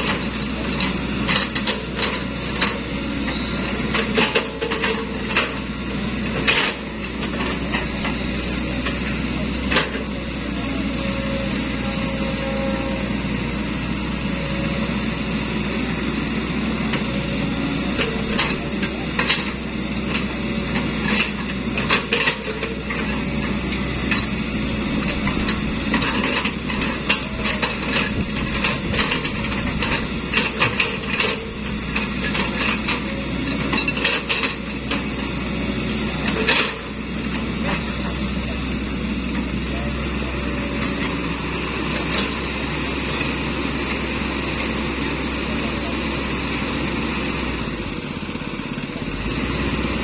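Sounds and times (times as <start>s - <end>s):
excavator engine running: 0.0s - 50.0s.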